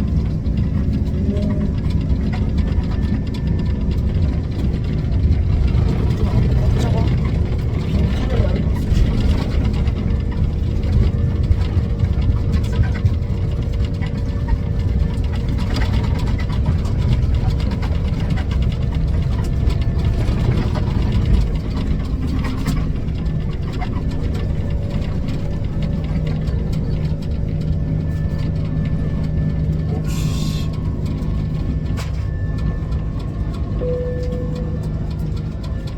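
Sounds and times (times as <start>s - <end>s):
airliner engines drone: 0.0s - 35.9s.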